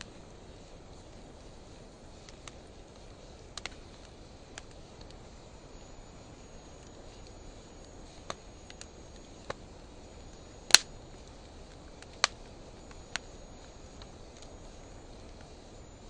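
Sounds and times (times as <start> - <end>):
fire popping: 0.0 - 16.0
wood fire hissing: 0.0 - 16.0.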